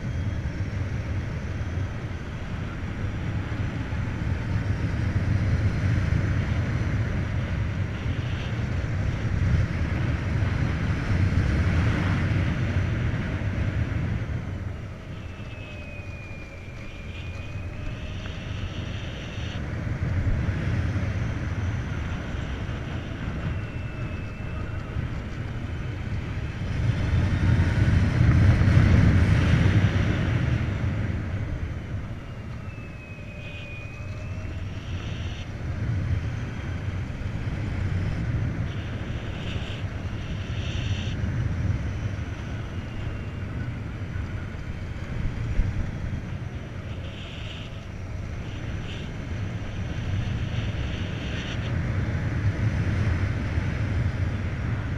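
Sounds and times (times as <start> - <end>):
faint high electric whine: 0.0 - 54.9
tyre road noise: 0.0 - 54.9
wind rush: 0.0 - 54.9.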